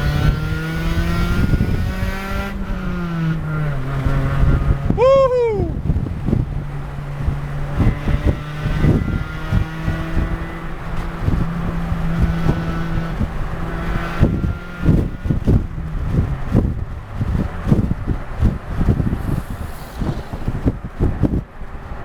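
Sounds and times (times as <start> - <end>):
car engine droning: 0.0 - 22.0
wind buffeting microphone: 0.0 - 22.0.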